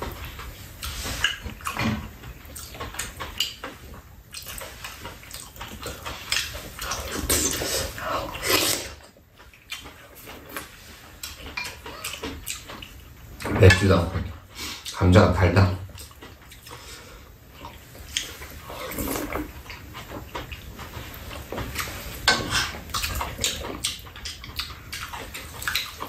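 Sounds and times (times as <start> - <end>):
chewing and smacking mouth noises: 0.0 - 15.0, 15.8 - 26.0.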